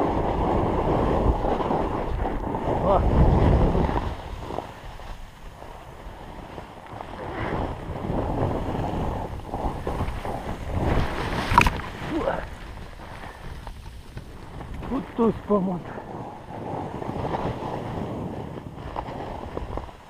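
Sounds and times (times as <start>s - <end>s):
snowboard scraping over snow: 0.0s - 20.0s
wind rushing on microphone: 0.0s - 20.0s.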